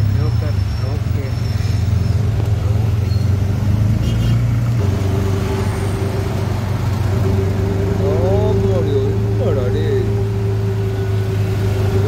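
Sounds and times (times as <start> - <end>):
auto-rickshaw engine running: 0.0 - 12.0
road noise: 0.0 - 12.0.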